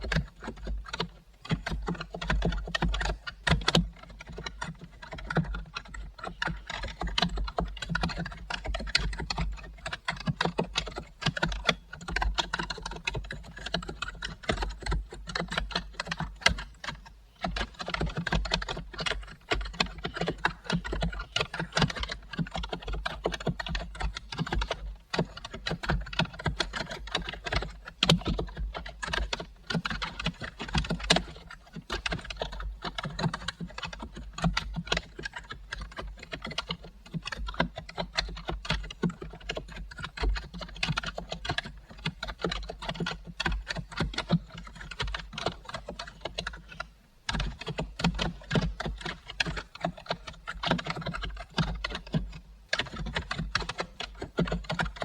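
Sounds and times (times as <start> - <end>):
typing on a computer keyboard: 0.0 - 55.0.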